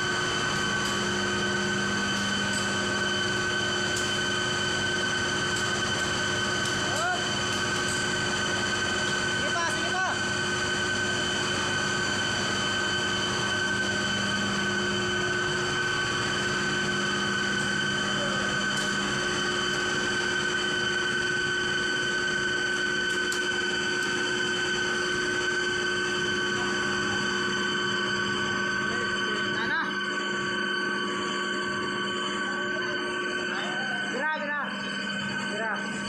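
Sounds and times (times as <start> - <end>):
machinery drone with whining tones: 0.0 - 36.0.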